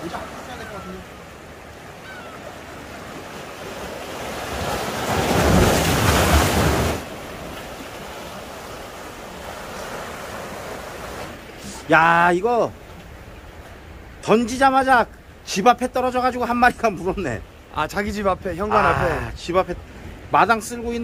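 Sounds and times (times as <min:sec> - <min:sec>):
waves breaking on breakwater: 0:00.0 - 0:21.0
wind: 0:00.0 - 0:21.0.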